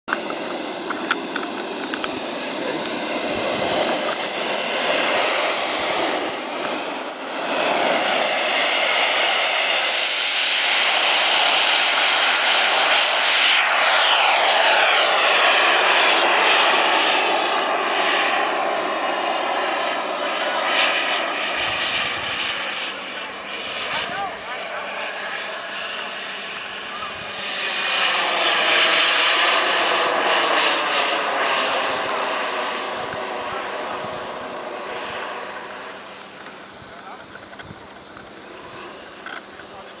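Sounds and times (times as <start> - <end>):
model jet engine whining: 0.1 - 40.0.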